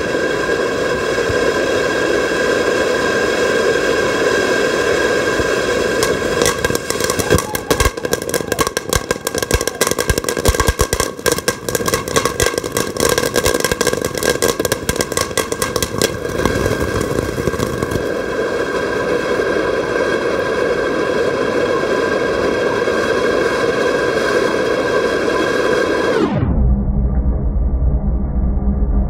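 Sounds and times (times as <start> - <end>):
fireworks crackling: 0.0 - 26.2
fireworks hissing and whistling: 0.0 - 26.4.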